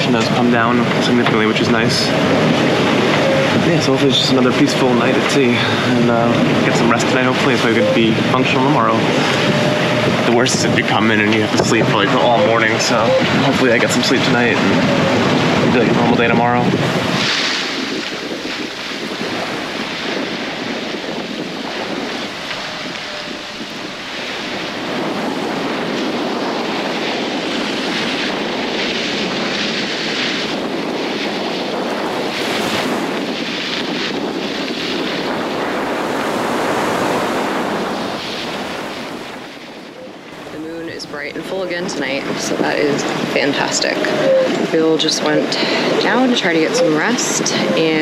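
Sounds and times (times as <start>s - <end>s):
waves: 0.0s - 48.0s
wind gusting on microphone: 0.0s - 48.0s
wind rushing: 0.0s - 48.0s.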